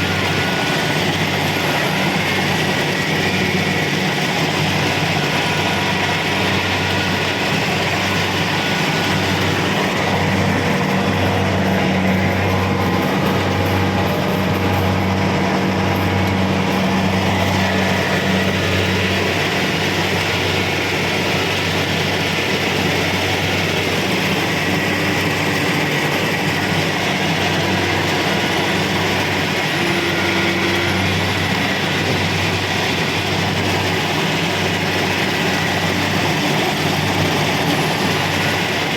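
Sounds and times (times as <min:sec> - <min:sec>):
combine harvester engine hum: 0:00.0 - 0:38.9
dense mechanical rush: 0:00.0 - 0:38.9.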